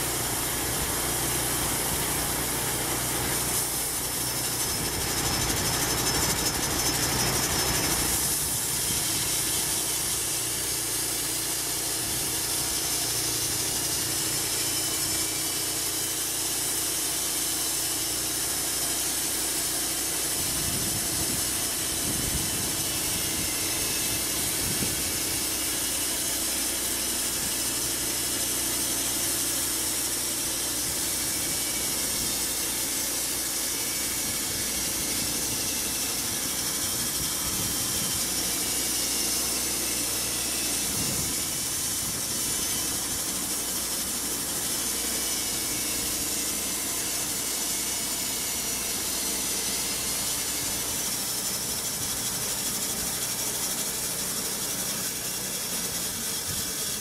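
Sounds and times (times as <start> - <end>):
band sawmill cutting log: 0.0 - 57.0.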